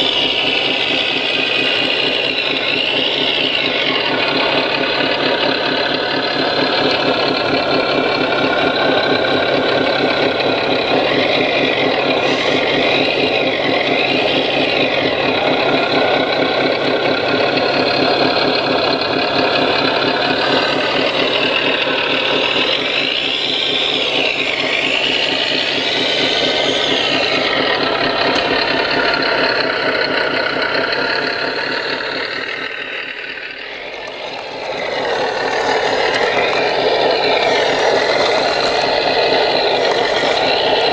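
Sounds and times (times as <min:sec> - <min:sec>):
electric motors whining: 0:00.0 - 0:40.9
simulated diesel engine running: 0:00.0 - 0:40.9.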